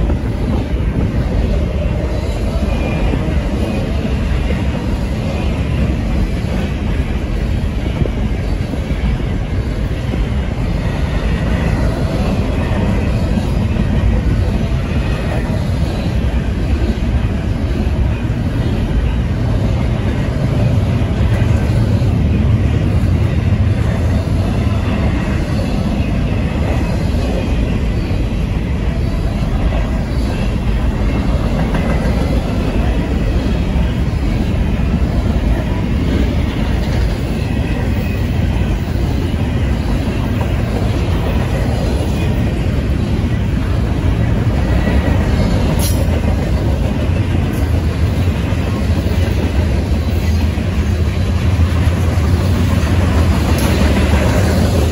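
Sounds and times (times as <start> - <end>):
freight train wheels rumbling on rails: 0.0 - 54.9.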